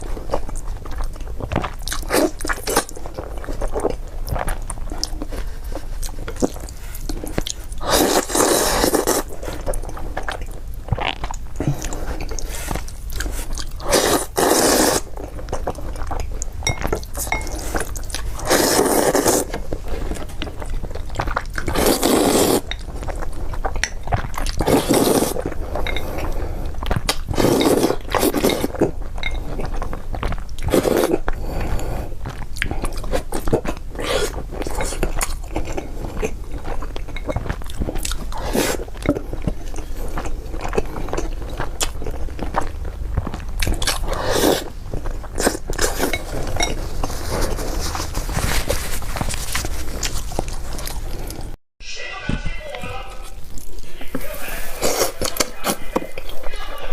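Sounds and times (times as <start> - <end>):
person chewing food: 0.0 - 51.6, 53.2 - 56.7.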